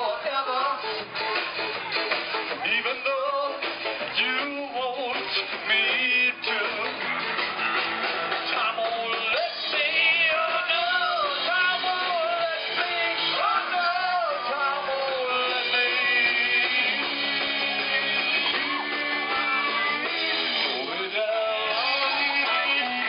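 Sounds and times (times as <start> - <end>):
live rock band: 0.0 - 23.0
person singing: 2.5 - 7.0, 8.4 - 23.0.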